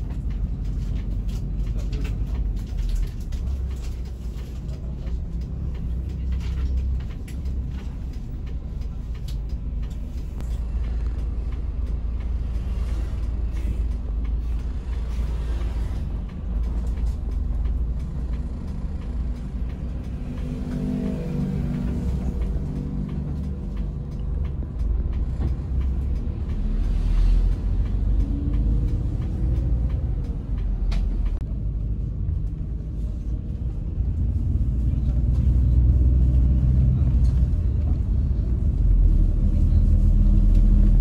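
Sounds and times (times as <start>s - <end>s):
diesel engine low rumble: 0.0s - 41.0s
road noise: 0.0s - 41.0s.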